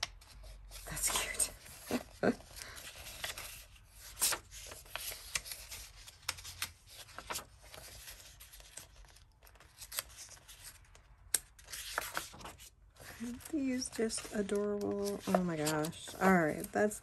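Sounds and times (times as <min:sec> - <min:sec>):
paper pages rustling: 0:00.1 - 0:17.0.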